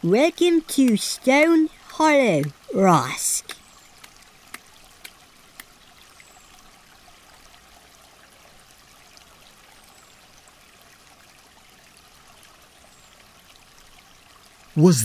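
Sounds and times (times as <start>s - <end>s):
stream water trickling: 0.0s - 15.0s.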